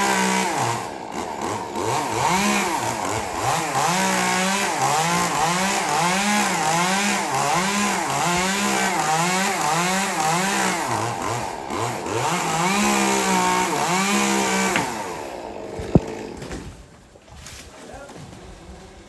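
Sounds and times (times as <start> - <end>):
chainsaw cutting: 0.0 - 19.0.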